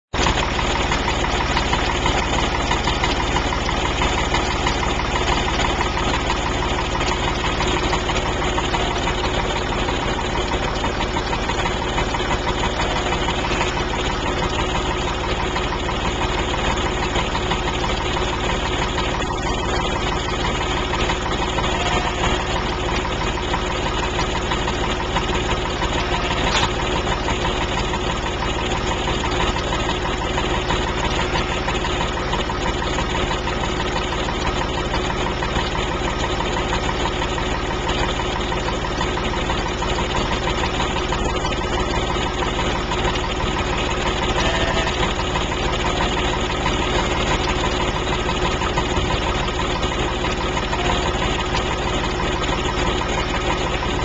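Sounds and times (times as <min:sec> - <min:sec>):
engine idling: 0:00.1 - 0:54.0.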